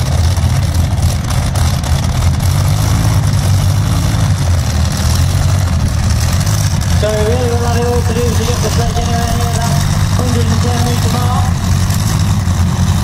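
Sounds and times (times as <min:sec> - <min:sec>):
tractor engines idling: 0:00.0 - 0:13.0.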